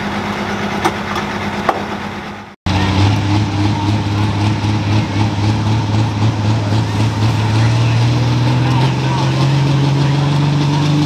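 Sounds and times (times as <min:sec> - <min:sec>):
deeper diesel engine drone: 0:00.0 - 0:11.0
tractor diesel engine idling: 0:00.0 - 0:11.0.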